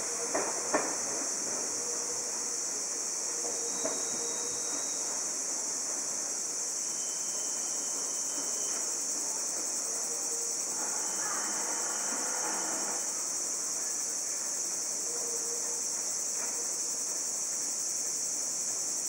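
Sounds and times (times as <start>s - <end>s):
faint electric train rolling: 0.0s - 19.0s
insects chorus: 0.0s - 19.0s.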